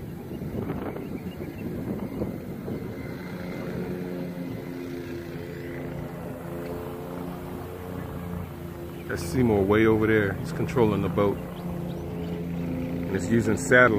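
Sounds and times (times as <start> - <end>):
motor hum: 0.0 - 13.9
wind rumbling on microphone: 0.0 - 13.9.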